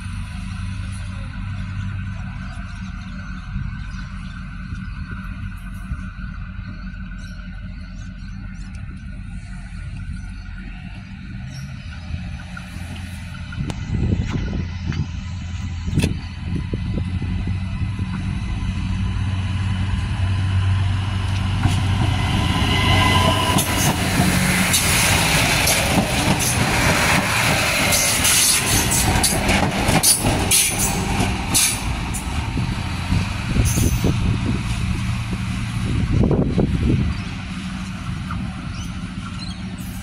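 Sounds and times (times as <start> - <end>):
railcar engine hum: 0.0 - 40.0.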